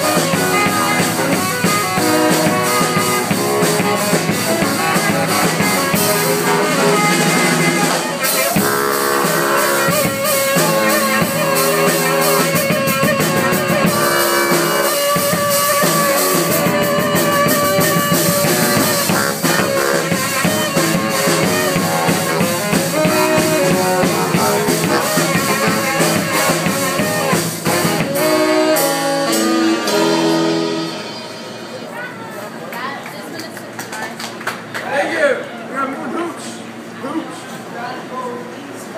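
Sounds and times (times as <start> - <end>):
drum kit beat: 0.0 - 32.4
saxophones trading riffs: 0.0 - 32.6.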